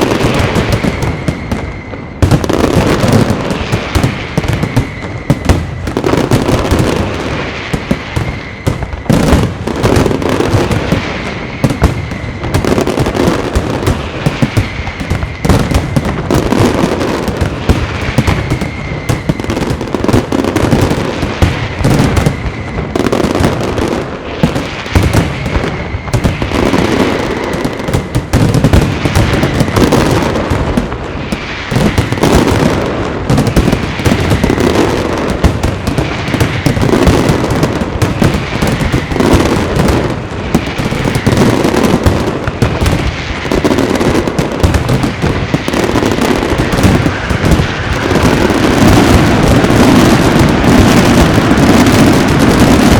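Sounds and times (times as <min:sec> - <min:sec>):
firework bangs and crackles: 0:00.0 - 0:52.9
firework whistling: 0:00.0 - 0:52.9.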